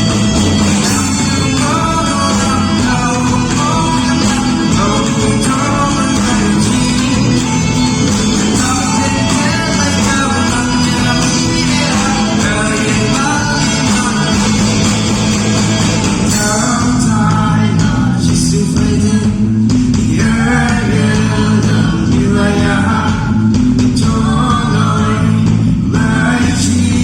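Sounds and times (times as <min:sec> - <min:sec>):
gospel band with singing: 0:00.0 - 0:27.0.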